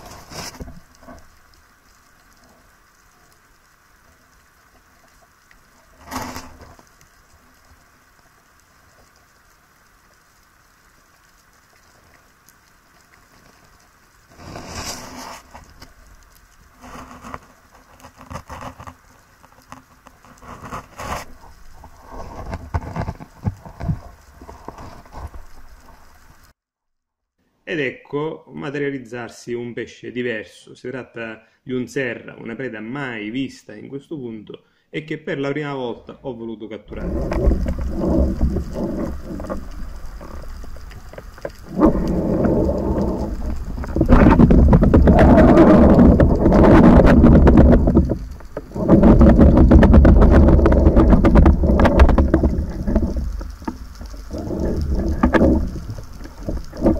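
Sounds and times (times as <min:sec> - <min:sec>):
underwater crackling clicks: 0:00.0 - 0:26.5, 0:36.9 - 0:56.9.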